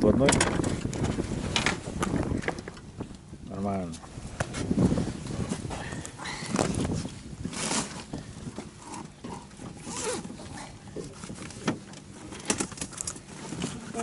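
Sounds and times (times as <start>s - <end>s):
wind on microphone: 0.0s - 11.9s.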